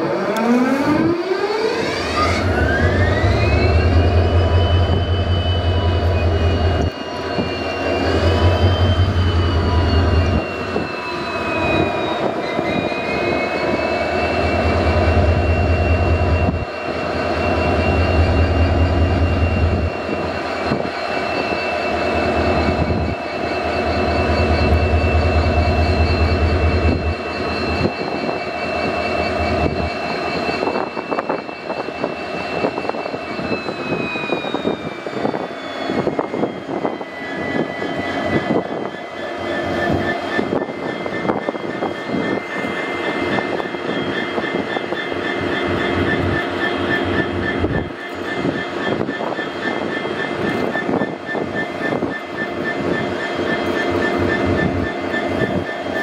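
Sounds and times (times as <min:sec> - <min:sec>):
diesel engine running with whine: 0:00.0 - 0:56.0
low throb: 0:00.0 - 0:56.0.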